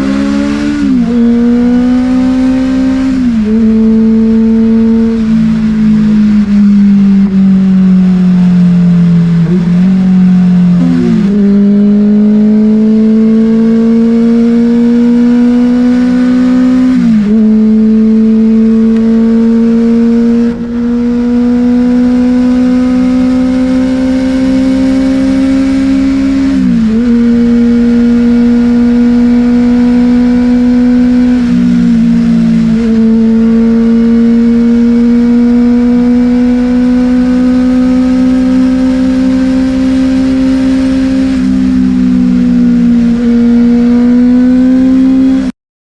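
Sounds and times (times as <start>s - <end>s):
motorcycle engine revving: 0.0s - 45.5s.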